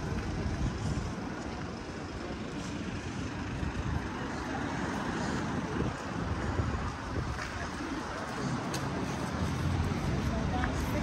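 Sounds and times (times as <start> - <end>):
busy street hiss: 0.0 - 11.0
traffic rumble: 0.0 - 11.0.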